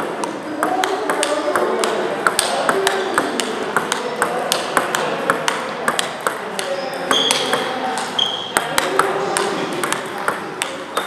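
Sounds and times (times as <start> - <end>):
table tennis balls clicking: 0.0 - 11.0.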